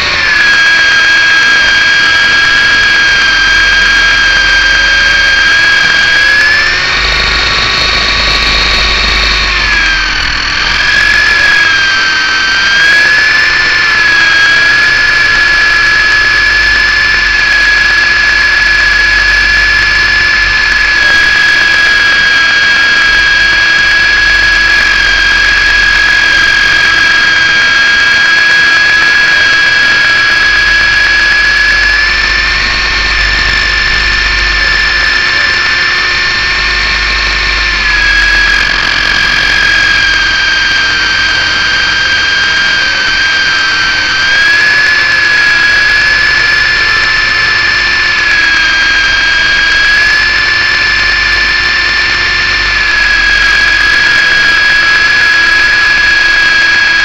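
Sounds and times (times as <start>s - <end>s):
toy helicopter rotor whine: 0.0s - 57.0s.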